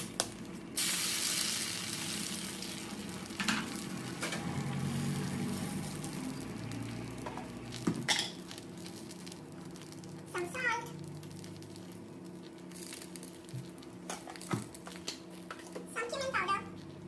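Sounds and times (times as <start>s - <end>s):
eggs sizzling in oil: 0.0s - 15.9s.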